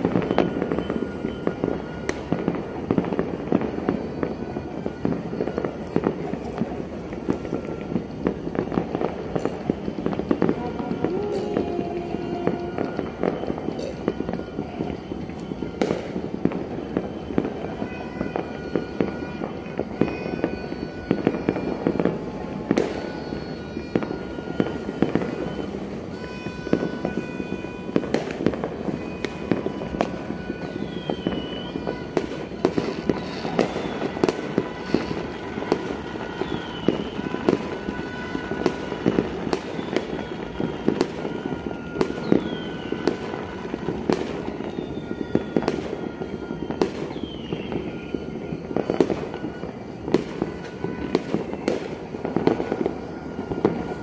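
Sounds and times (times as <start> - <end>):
fireworks crackling and banging: 0.0 - 54.0
fireworks whistling: 0.0 - 54.0.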